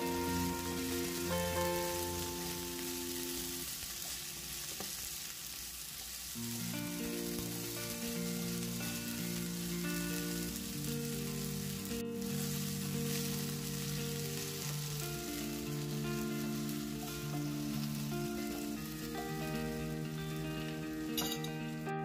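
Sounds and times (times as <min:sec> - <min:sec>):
background music with held notes: 0:00.0 - 0:03.7, 0:06.4 - 0:22.0
chicken sizzling in hot oil: 0:00.0 - 0:21.9.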